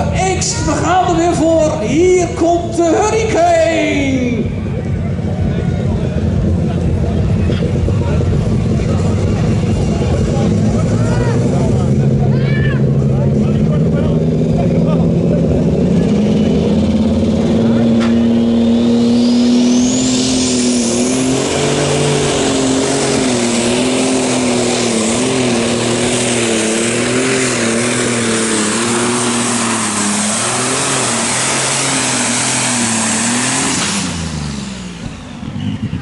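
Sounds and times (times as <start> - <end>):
high turbo whine: 0.0 - 36.0
tractor diesel engine at full throttle: 0.0 - 36.0.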